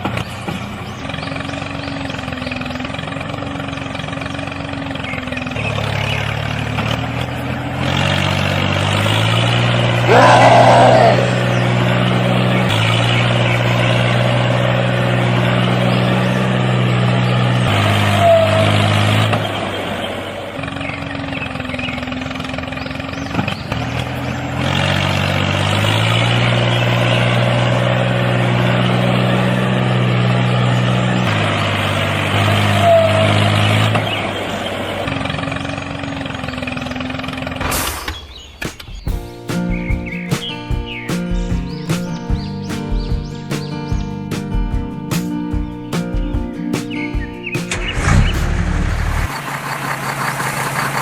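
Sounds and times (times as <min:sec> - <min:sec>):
tractor engine running: 0:00.0 - 0:10.1, 0:11.2 - 0:51.0.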